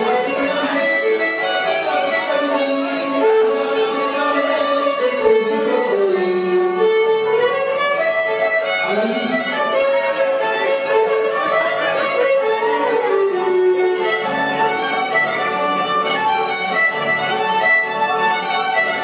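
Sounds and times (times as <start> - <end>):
folk dance music: 0.0 - 19.0.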